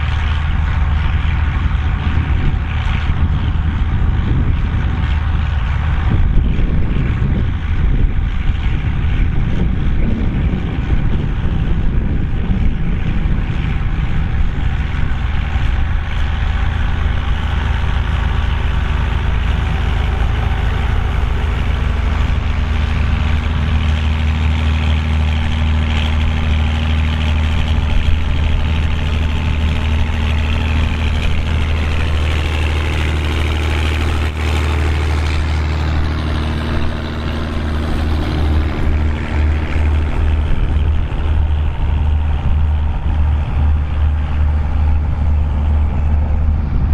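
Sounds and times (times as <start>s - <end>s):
tractor diesel engine droning: 0.0s - 46.9s.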